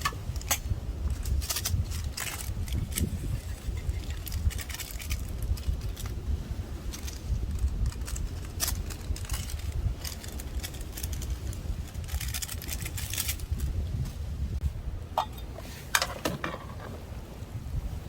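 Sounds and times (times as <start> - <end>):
handling clicks and rustles: 0.0 - 14.3, 15.1 - 17.4
wind buffeting microphone: 0.0 - 18.0.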